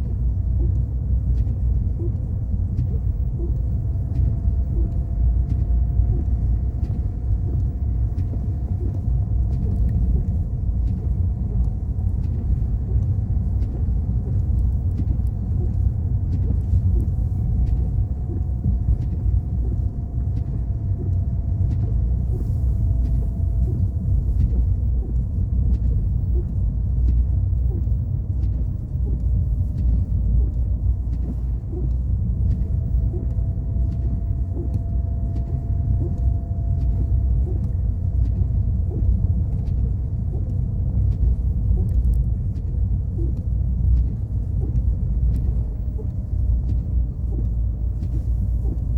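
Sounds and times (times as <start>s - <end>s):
faint steady whine: 0.0s - 48.9s
light ticks: 0.0s - 48.9s
car engine and tyres rumbling: 2.4s - 48.9s.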